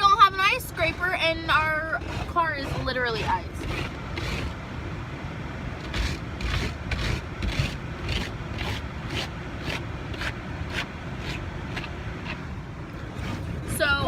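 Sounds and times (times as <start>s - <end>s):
ice scraping off car: 0.0s - 4.6s, 5.8s - 12.4s, 13.0s - 14.0s.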